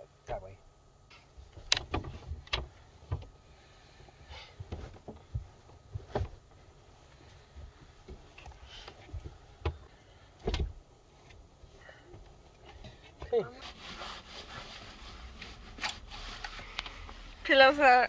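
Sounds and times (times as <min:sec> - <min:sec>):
seat cushions knocking and shuffling: 0:01.2 - 0:18.0.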